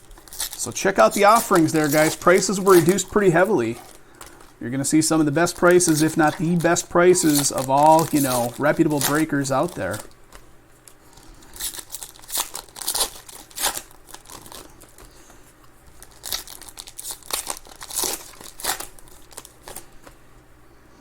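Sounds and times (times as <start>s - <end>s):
plastic wrappers torn and crinkled: 0.0s - 15.2s, 15.8s - 20.2s.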